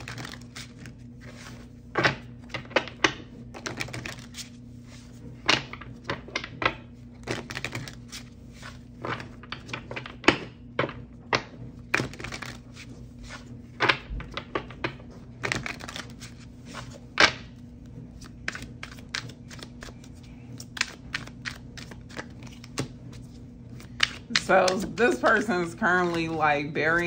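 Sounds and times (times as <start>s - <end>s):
cards being shuffled: 0.0s - 6.5s, 7.2s - 10.9s, 11.8s - 27.0s
low steady hum: 0.0s - 27.0s.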